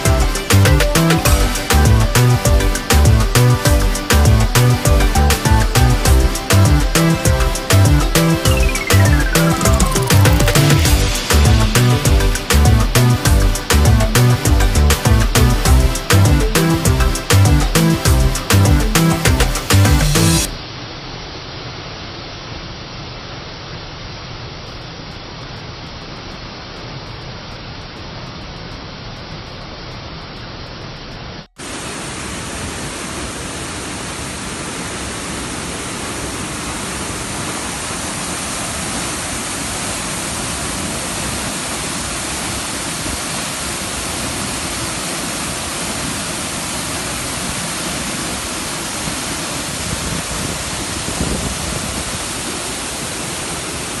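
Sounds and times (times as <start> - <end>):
waterfall and rapids rushing: 0.0 - 54.0.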